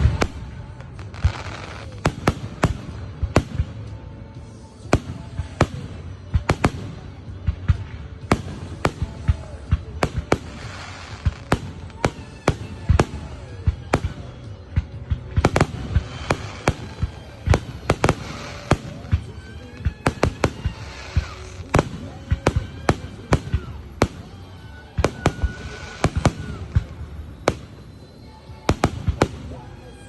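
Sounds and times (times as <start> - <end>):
faint background music: 0.0 - 30.0
fireworks banging: 0.0 - 30.0.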